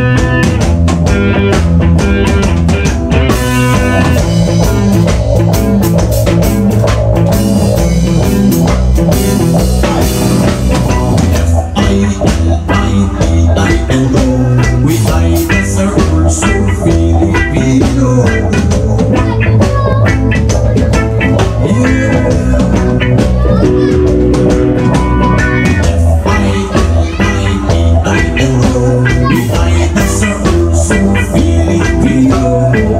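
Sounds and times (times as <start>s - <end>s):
drum kit beat: 0.0s - 32.9s
electric guitars: 0.0s - 32.9s.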